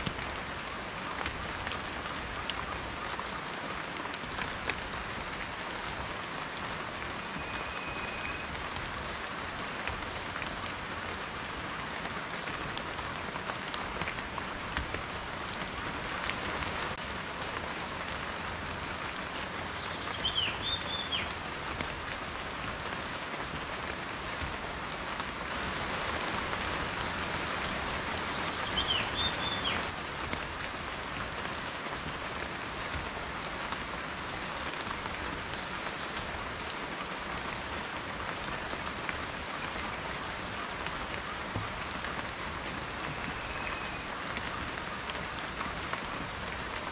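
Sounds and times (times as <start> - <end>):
rain drops ticking: 0.0 - 46.9.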